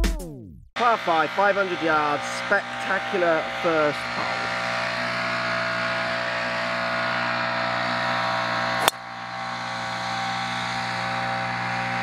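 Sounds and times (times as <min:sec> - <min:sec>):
droning hum: 0:00.8 - 0:12.0.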